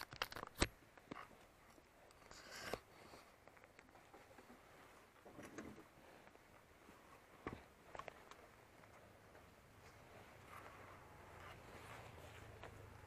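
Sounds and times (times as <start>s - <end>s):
jacket rustle: 0.8s - 13.0s.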